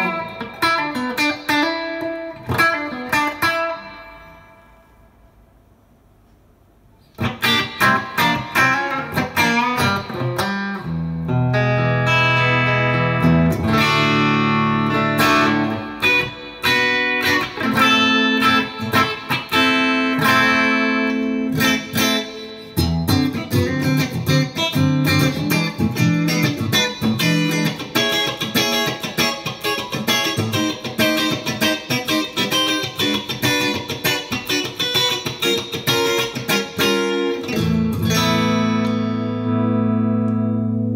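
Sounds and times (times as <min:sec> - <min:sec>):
electric guitar chords ringing: 0:00.0 - 0:05.4, 0:07.2 - 0:40.9
electric guitar picked single notes: 0:07.2 - 0:40.9.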